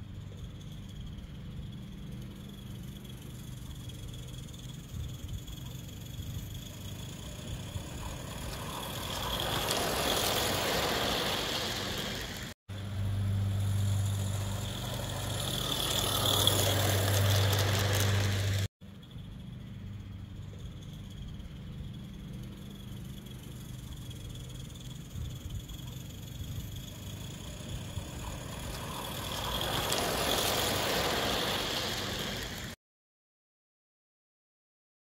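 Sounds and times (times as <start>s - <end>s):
low engine-like hum: 0.0s - 32.8s
model train running past: 0.0s - 32.8s.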